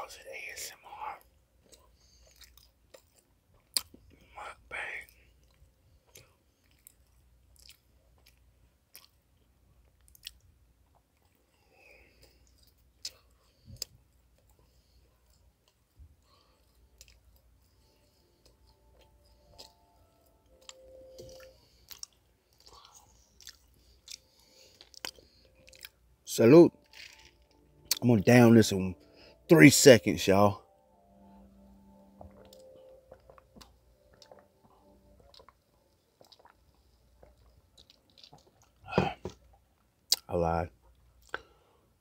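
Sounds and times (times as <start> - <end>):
faint chewing: 1.0 - 4.4, 5.0 - 26.1, 26.8 - 28.0, 31.9 - 41.8.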